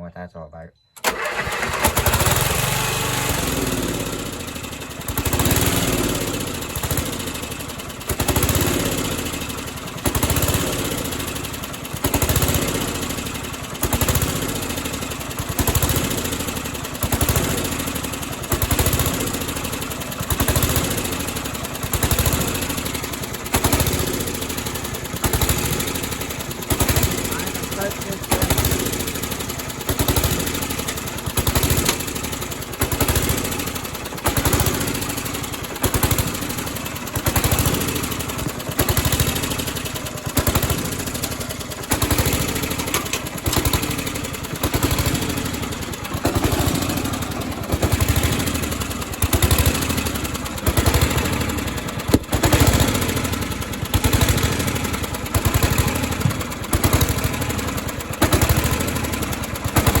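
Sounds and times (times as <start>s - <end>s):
lawnmower engine surging: 1.0s - 60.0s.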